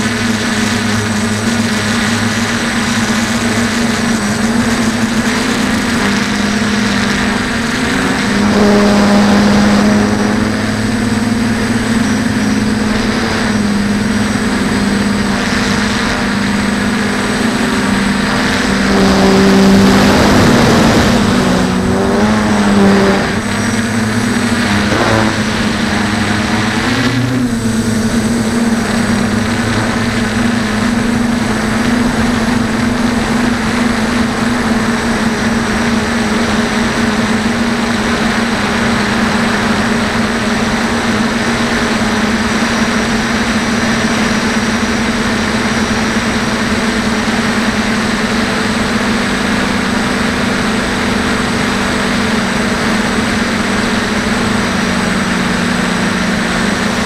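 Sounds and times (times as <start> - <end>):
quadcopter motors buzzing: 0.0 - 57.0
wind noise: 0.0 - 57.0.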